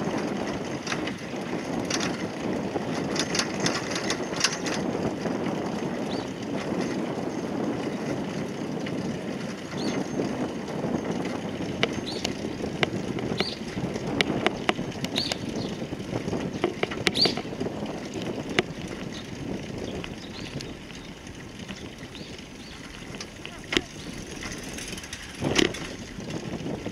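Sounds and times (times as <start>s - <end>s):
bicycle tyres rumbling over paving: 0.0s - 26.9s
bike clicks and rattles: 0.0s - 26.9s
wind on microphone: 0.0s - 26.9s.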